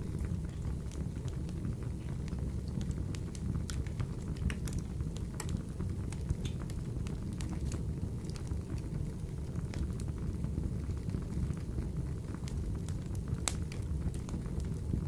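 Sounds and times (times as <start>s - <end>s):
low rumble of flame: 0.0s - 15.0s
wood fire crackles and pops: 0.0s - 15.0s.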